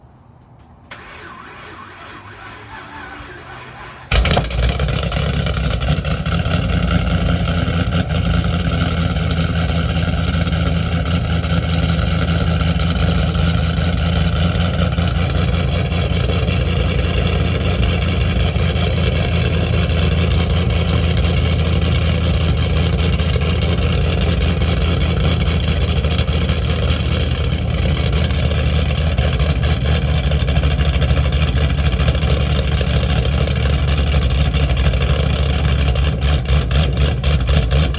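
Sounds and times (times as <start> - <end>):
car engine idling: 0.6 - 37.9.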